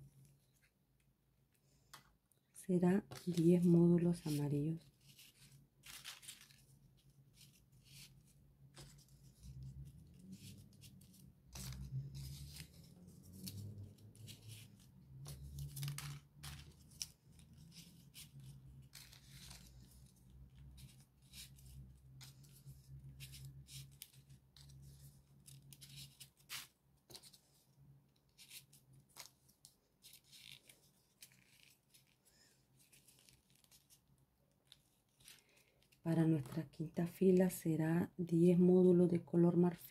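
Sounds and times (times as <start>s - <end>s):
paper rustling: 3.0s - 36.7s.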